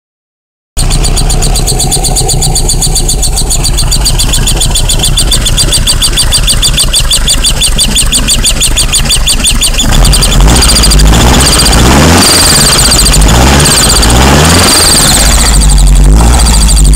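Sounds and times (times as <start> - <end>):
car engine idling and revving: 0.8 - 16.9
fast high-pitched ticking: 0.8 - 16.9.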